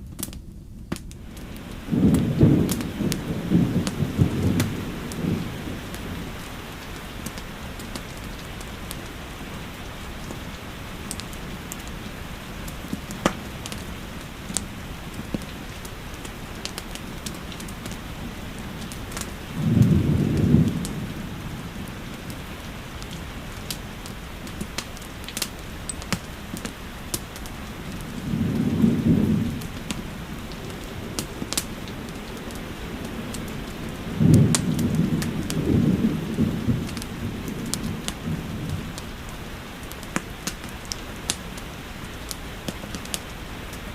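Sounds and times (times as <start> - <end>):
steady rain: 0.0 - 43.9
wood fire crackling and popping: 0.0 - 43.9.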